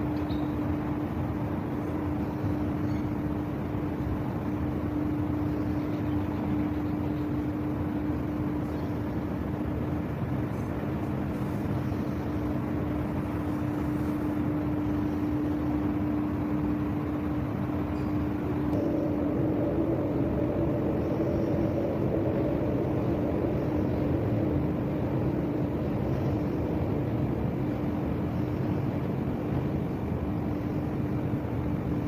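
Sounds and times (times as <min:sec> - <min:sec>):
city traffic rumble: 0:00.0 - 0:32.0
constant low hum: 0:00.0 - 0:32.0
harbour machinery: 0:00.0 - 0:32.0.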